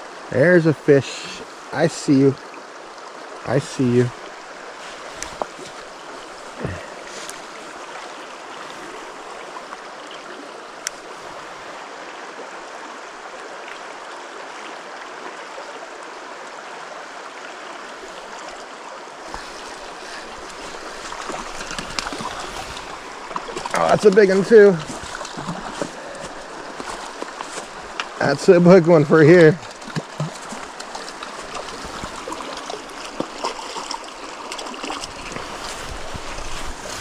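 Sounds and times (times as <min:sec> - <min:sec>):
mountain stream rushing: 0:00.0 - 0:37.0.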